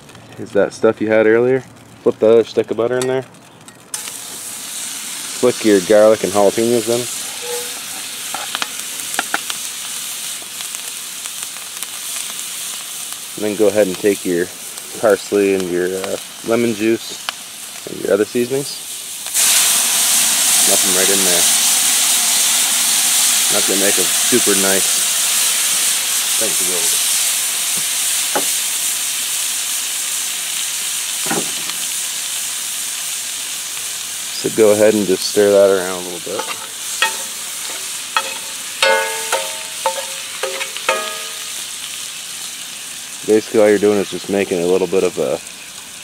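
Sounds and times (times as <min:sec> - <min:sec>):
food sizzling in a skillet: 0:03.4 - 0:46.0.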